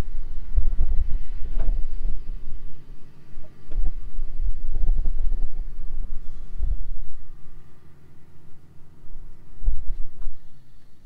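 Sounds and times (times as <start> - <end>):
wind buffeting microphone: 0.0 - 7.7, 9.1 - 10.6.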